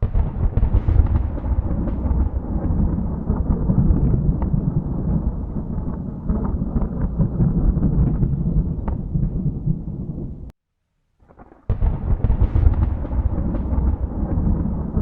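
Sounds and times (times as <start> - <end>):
thunder rumbling: 0.0 - 10.5, 11.3 - 15.0.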